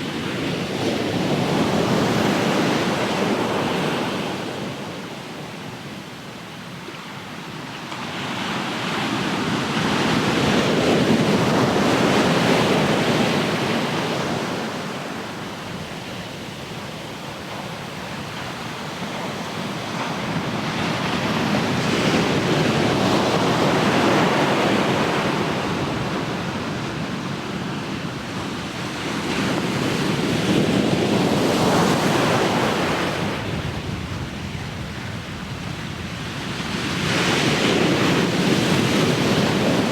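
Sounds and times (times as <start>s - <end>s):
ocean waves rolling in: 0.0s - 39.9s.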